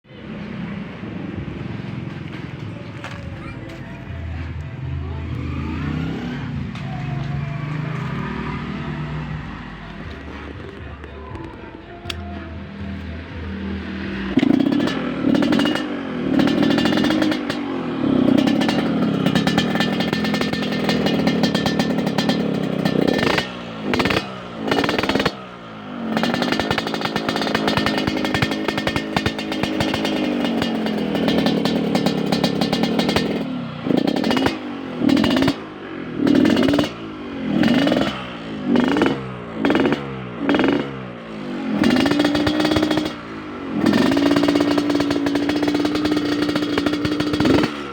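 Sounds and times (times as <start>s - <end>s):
motorcycle engine revving: 4.4s - 47.9s.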